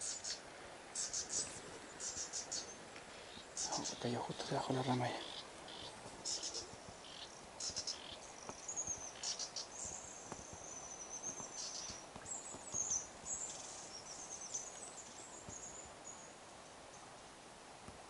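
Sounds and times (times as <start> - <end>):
small birds twittering: 0.0 - 17.1.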